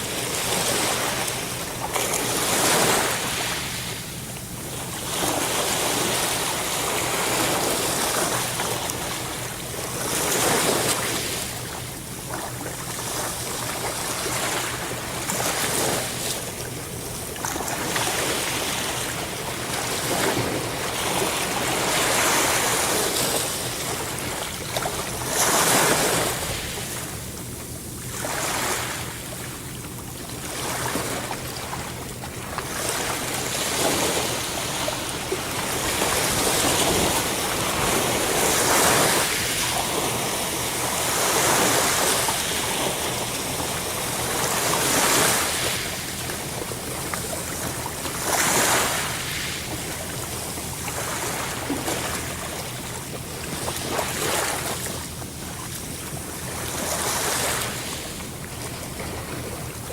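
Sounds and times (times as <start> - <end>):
sea waves washing in: 0.0 - 59.9.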